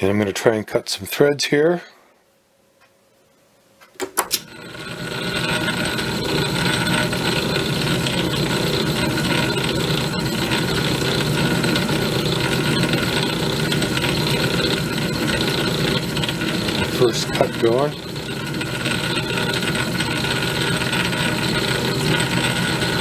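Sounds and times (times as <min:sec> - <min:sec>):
lathe motor running: 0:04.4 - 0:23.0.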